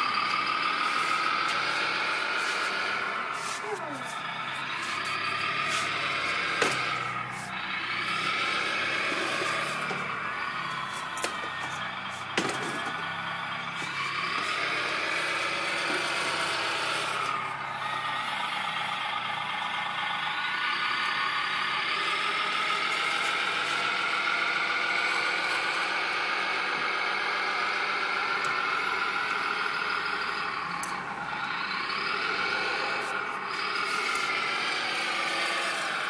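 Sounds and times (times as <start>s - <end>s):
model loader motors whining: 0.0s - 36.0s.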